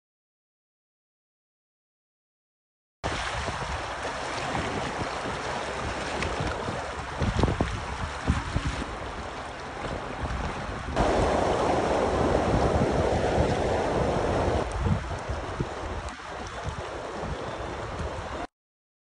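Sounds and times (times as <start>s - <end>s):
rushing water rapids: 3.1s - 18.5s
wind buffeting microphone: 3.1s - 18.5s.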